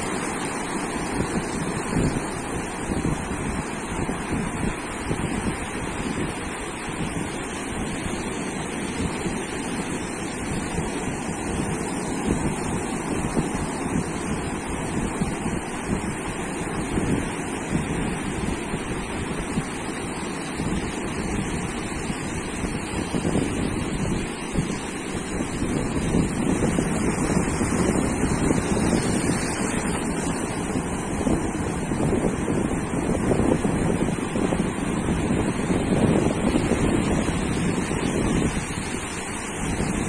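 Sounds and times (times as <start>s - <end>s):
ocean surf washing onto beach: 0.0s - 40.0s
wind rumbling on microphone: 0.0s - 40.0s.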